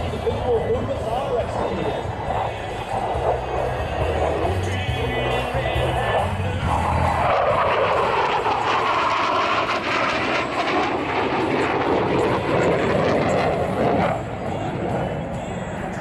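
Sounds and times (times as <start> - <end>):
jet engine roaring past: 0.0 - 16.0.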